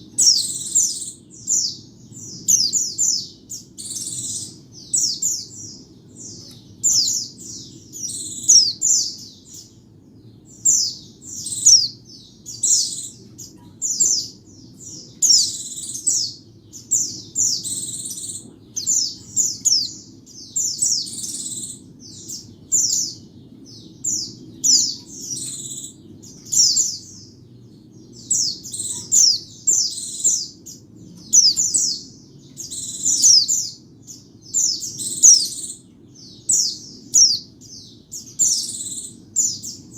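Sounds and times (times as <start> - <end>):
bird twittering: 0.0 - 9.8, 10.5 - 27.4, 28.0 - 39.9
faint low hum: 0.0 - 39.9.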